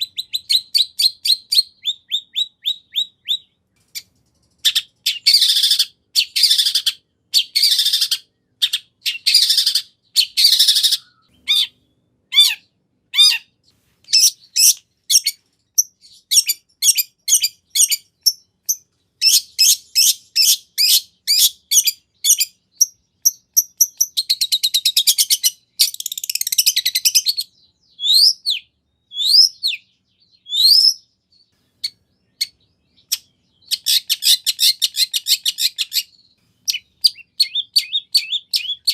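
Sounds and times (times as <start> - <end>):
bird singing varied song: 0.0 - 38.9.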